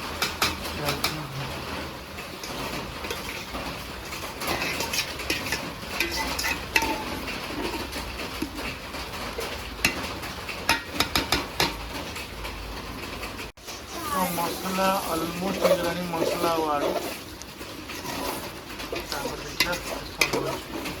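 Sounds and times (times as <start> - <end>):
metal spoon scraping a pan: 0.0 - 12.2, 13.6 - 21.0
food frying: 0.0 - 21.0.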